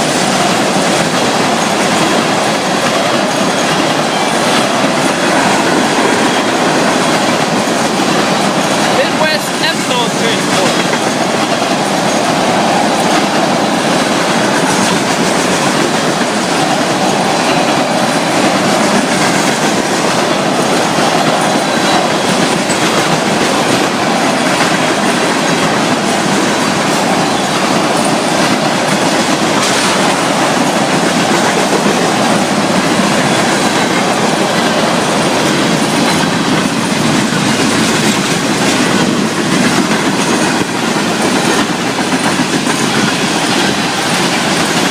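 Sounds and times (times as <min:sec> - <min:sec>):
freight train rumbling past: 0:00.0 - 0:44.9
wheels clicking over rail joints: 0:00.0 - 0:44.9.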